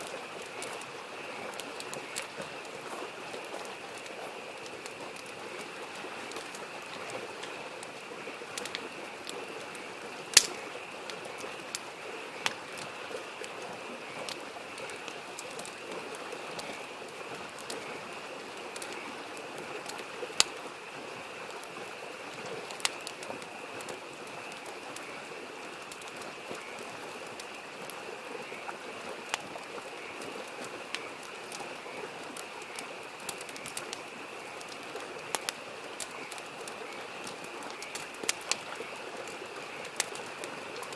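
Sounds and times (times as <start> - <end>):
campfire crackling and popping: 0.0 - 40.9
frogs calling: 0.0 - 40.9
small stream rushing: 0.0 - 40.9.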